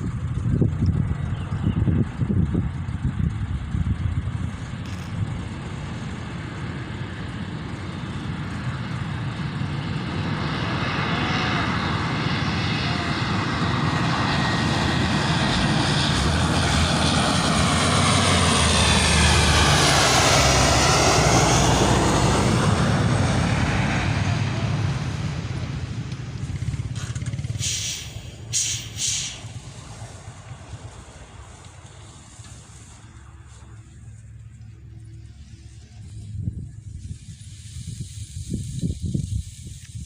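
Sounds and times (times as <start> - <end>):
truck engine running hard: 0.0 - 39.7.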